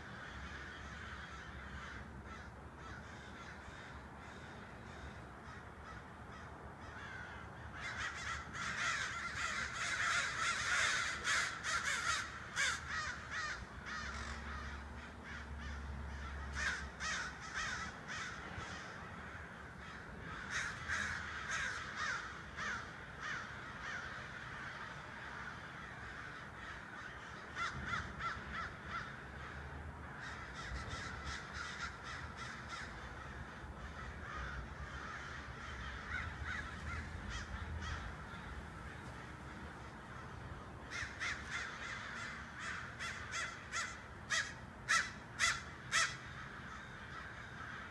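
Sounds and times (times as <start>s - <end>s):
crows cawing: 0.0s - 47.9s.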